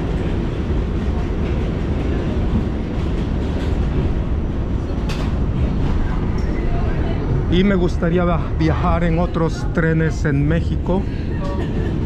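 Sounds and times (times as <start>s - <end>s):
subway car rumbling: 0.0s - 12.0s.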